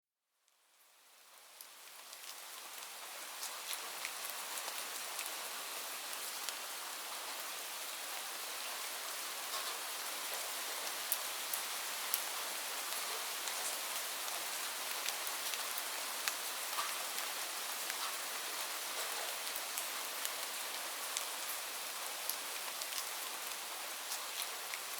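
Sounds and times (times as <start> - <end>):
steady falling rain: 0.5 - 24.9.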